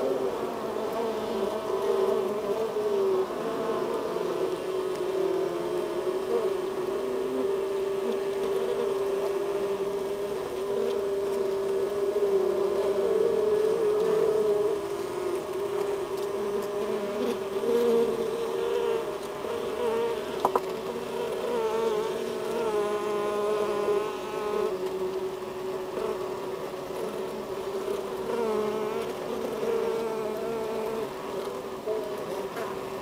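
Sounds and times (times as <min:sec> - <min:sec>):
honeybees buzzing in hive: 0:00.0 - 0:33.0
single bee buzzing: 0:00.0 - 0:33.0.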